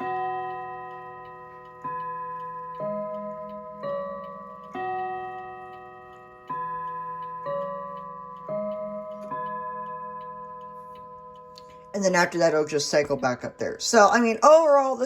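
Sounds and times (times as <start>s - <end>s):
clock chime notes: 0.0s - 15.0s
clock ticking: 0.0s - 15.0s.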